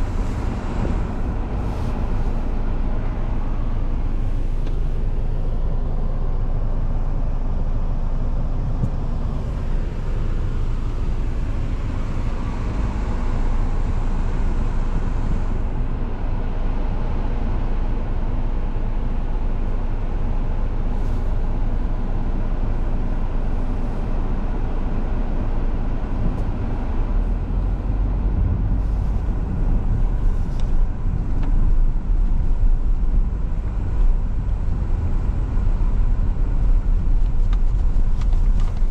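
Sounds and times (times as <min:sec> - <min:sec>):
car engine rumble: 0:00.0 - 0:38.9
road noise: 0:00.0 - 0:38.9.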